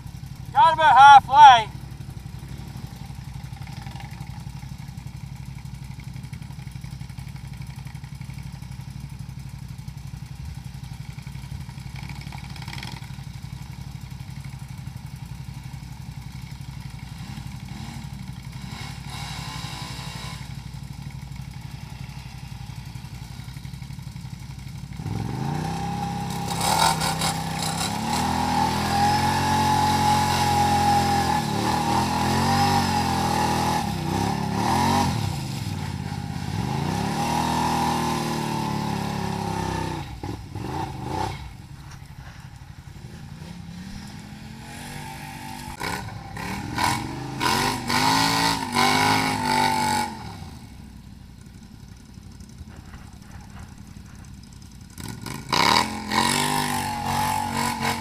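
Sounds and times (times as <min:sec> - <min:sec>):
atv engine idling and revving: 0:00.0 - 0:58.0
engine clatter: 0:01.7 - 0:58.0.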